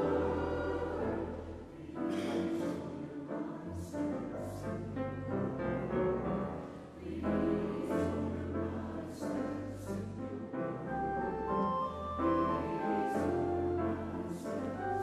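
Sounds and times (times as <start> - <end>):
classical piano music: 0.0 - 15.0.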